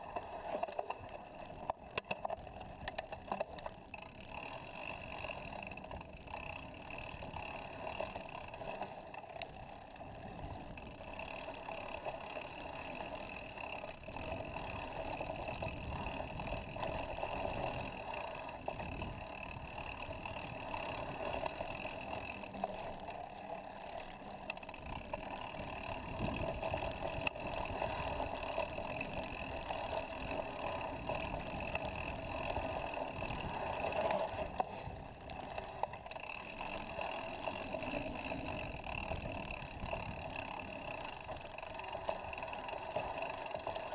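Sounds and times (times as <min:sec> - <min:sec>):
bike jolts and rattles: 0:00.0 - 0:43.9
bike tyres rolling on dirt: 0:00.0 - 0:43.9.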